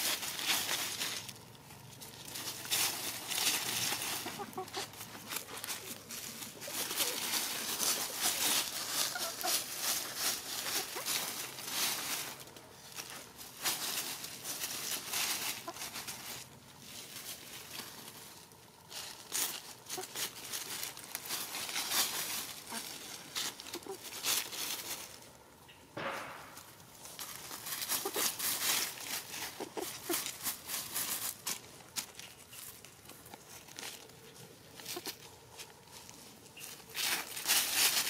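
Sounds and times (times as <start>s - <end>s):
hens scratching in dry leaves: 0.0s - 38.0s.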